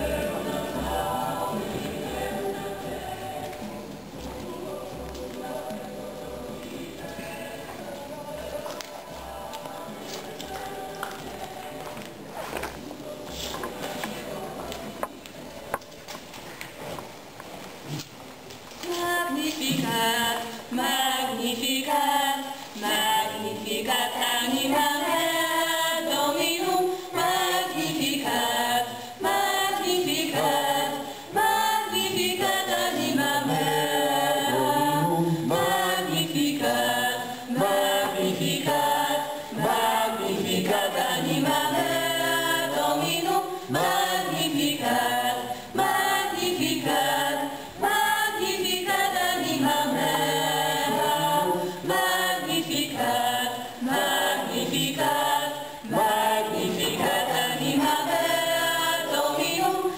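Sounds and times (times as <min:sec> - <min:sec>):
choir singing a hymn: 0:00.0 - 0:15.9, 0:18.8 - 0:59.9.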